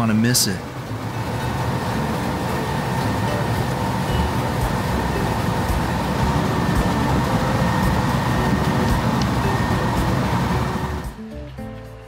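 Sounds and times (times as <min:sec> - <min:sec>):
faint steady whine: 0:00.0 - 0:11.2
heavy machinery engine running: 0:00.0 - 0:11.5.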